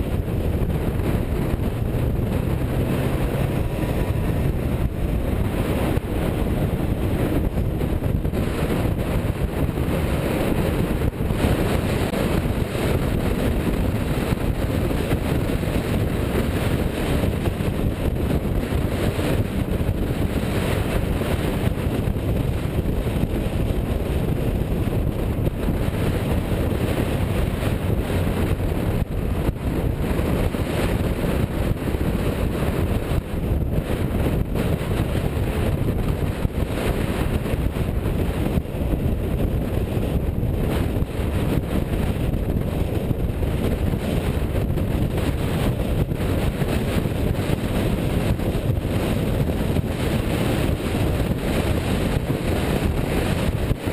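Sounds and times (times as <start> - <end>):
car driving rumble: 0.0 - 53.9
wind buffeting microphone: 0.0 - 53.9.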